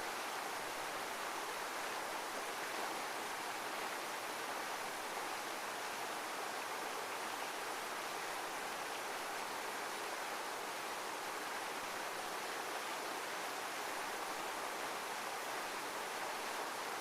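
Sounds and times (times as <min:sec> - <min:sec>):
rush of running water: 0:00.0 - 0:17.0.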